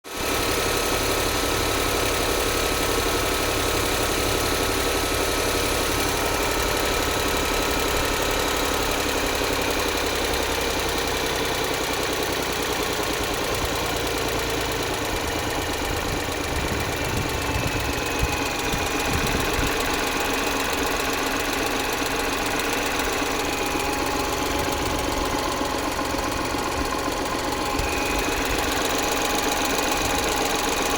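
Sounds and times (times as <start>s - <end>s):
car engine idling with rapid knocking: 0.1s - 30.9s.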